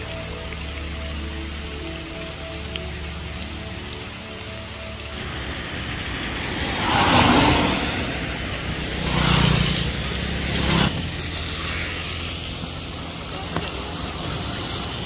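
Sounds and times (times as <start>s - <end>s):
tyres hissing on wet road: 0.0s - 15.0s
vehicle engines passing: 0.0s - 15.0s.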